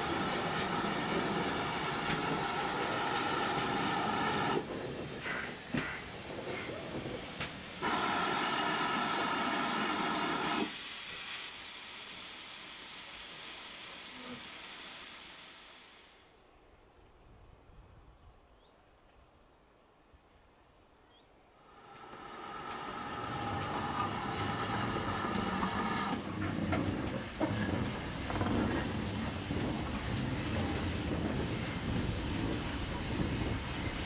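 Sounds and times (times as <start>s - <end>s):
locomotive steam hissing: 0.0s - 16.4s, 21.6s - 34.0s.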